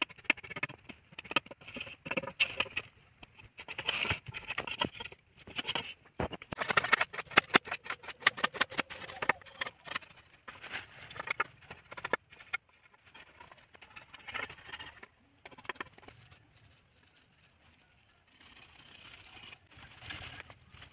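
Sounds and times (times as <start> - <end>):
knife scraping bamboo: 0.0 - 16.4, 18.3 - 20.9.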